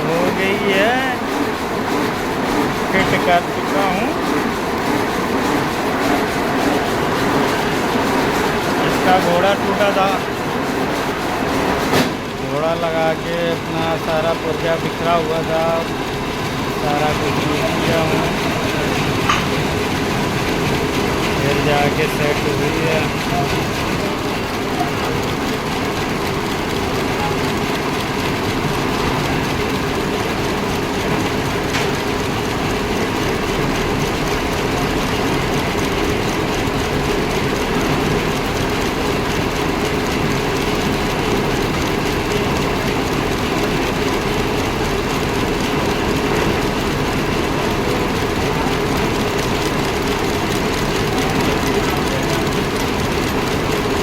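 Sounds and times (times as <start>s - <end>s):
machine running steadily: 0.0s - 54.0s.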